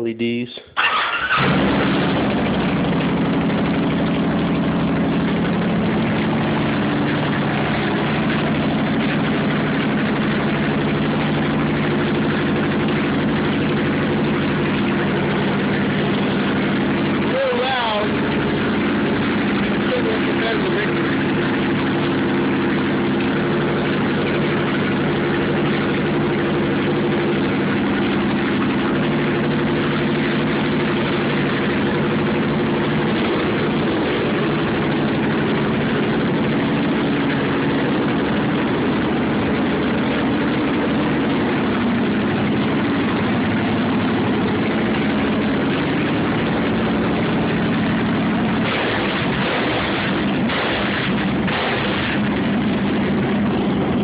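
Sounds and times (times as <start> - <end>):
motorcycle engine idling: 0.8 - 54.0.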